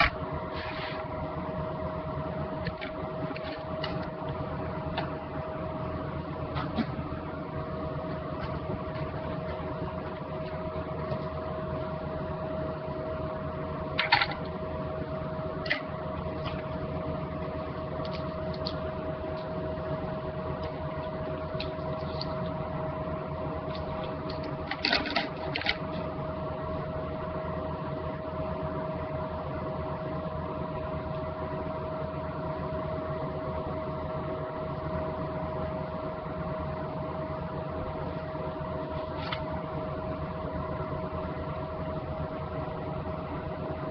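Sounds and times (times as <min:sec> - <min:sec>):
steady machine hum: 0:00.0 - 0:43.9.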